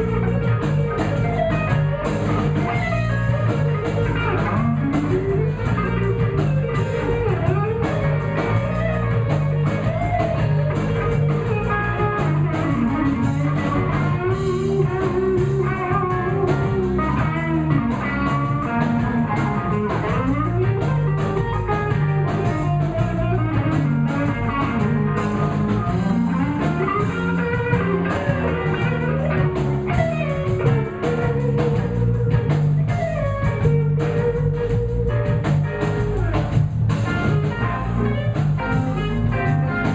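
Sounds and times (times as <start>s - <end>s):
blues band playing: 0.0s - 39.9s
electric guitar bending lead lines: 0.0s - 39.9s.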